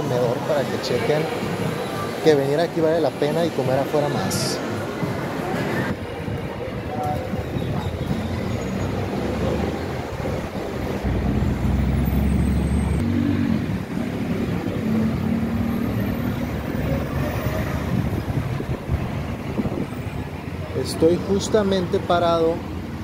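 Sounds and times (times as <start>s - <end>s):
low traffic rumble: 0.0s - 23.0s
passing engines: 0.0s - 23.0s
road traffic passing: 0.0s - 23.0s.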